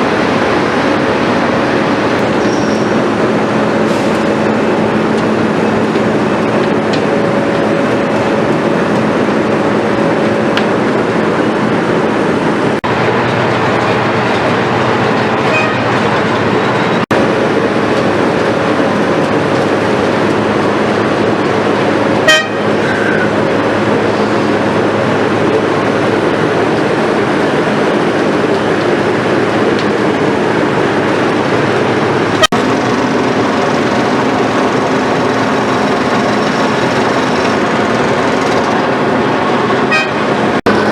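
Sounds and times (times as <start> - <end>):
milling machine engine and drum: 0.0 - 40.9.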